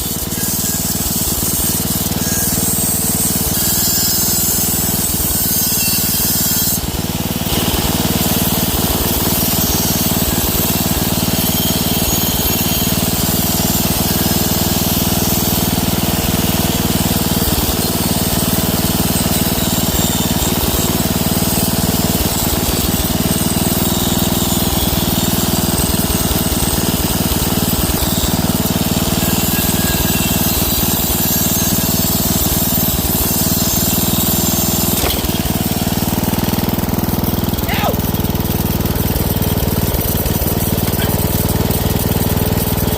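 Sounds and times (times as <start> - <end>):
angle grinder grinding metal: 0.0 - 42.9.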